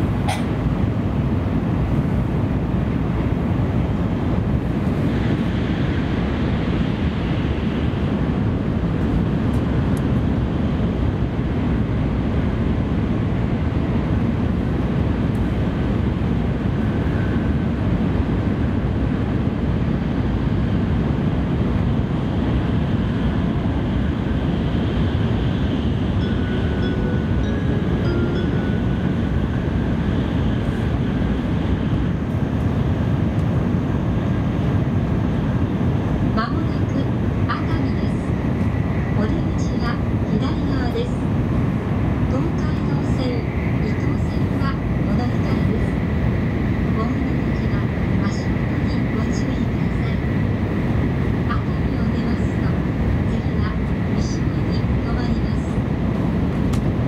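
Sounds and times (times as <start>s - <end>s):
train rumbling in tunnel: 0.0s - 57.0s.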